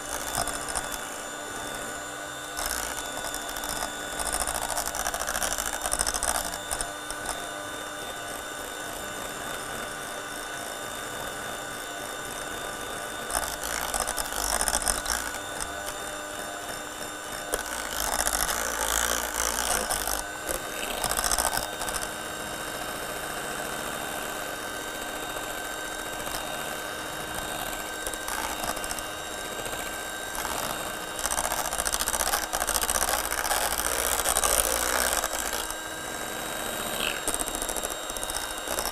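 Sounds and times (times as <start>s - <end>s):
electric hand mixer running: 0.0s - 38.9s.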